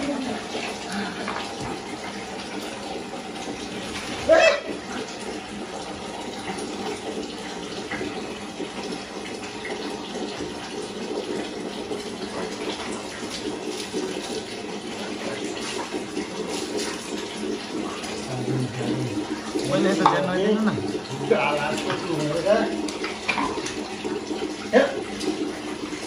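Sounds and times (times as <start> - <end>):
splashing and dripping: 0.0 - 26.0
water running from a tap: 0.0 - 26.0.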